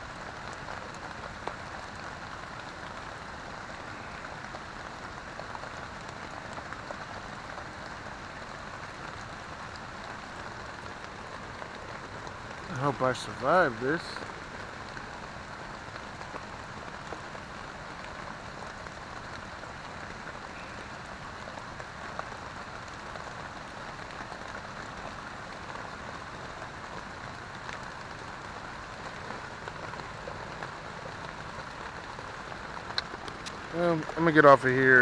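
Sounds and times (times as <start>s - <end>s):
rain falling on a tent: 0.0s - 35.0s.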